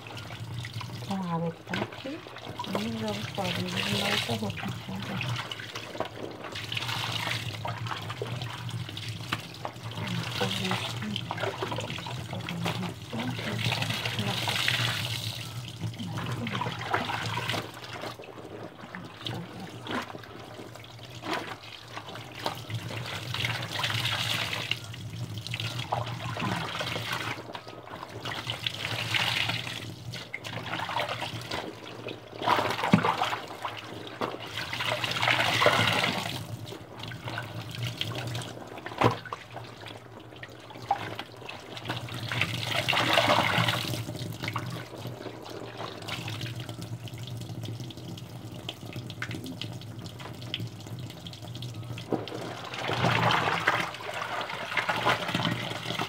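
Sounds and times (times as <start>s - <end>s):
water sloshing with clothes: 0.0s - 24.9s, 25.5s - 46.8s, 51.9s - 56.0s.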